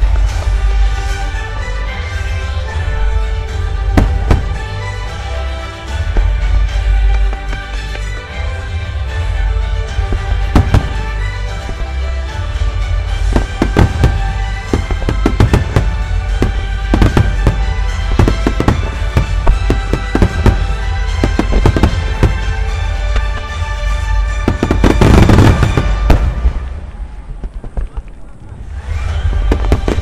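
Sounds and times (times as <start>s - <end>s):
music: 0.0s - 27.6s, 28.6s - 30.0s
fireworks bursting: 0.0s - 30.0s.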